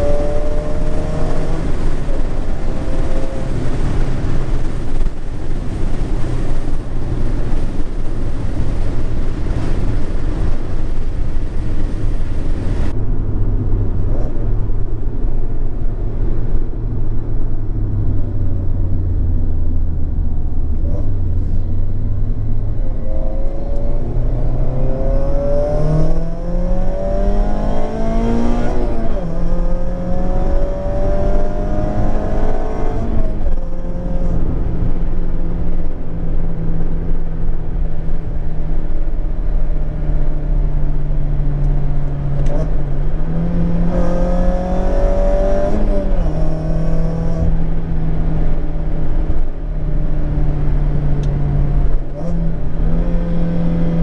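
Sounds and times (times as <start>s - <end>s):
car engine accelerating and cruising: 0.0s - 54.0s
road and wind noise: 0.0s - 54.0s.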